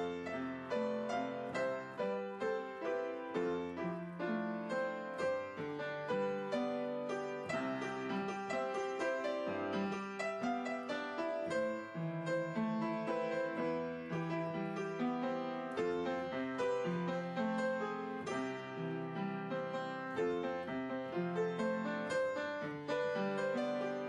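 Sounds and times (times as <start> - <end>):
background piano music: 0.0 - 24.0.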